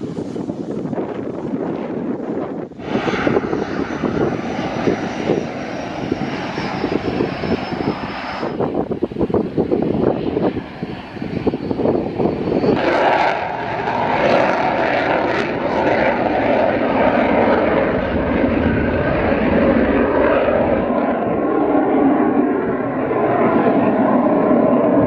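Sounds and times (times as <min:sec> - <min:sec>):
aircraft engine running: 0:00.0 - 0:25.0
wind buffeting microphone: 0:00.0 - 0:25.0.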